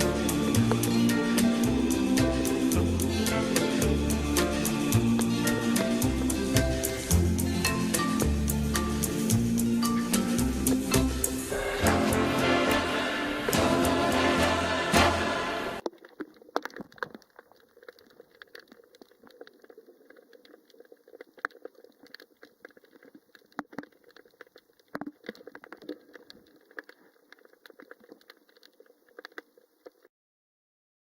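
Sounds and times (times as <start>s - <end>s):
underwater clicking and crackling: 0.0s - 11.5s, 15.8s - 30.1s.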